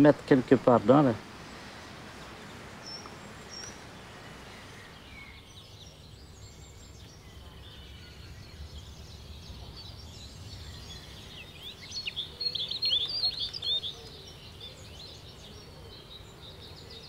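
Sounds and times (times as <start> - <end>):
faint bird chirps: 2.2 - 17.0.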